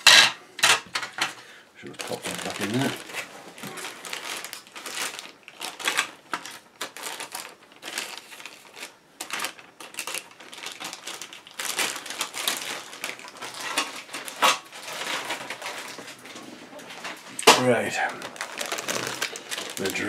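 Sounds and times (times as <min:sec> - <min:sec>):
plastic bag crinkling: 0:01.8 - 0:20.0.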